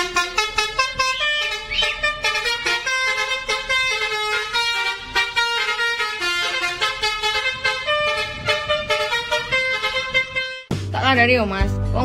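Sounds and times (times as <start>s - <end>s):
multi-note bus air horn melody: 0.0s - 10.7s.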